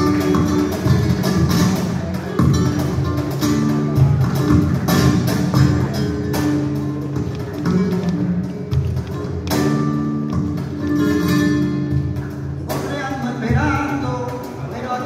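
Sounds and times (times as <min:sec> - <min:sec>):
flamenco acoustic guitar music: 0:00.0 - 0:15.0.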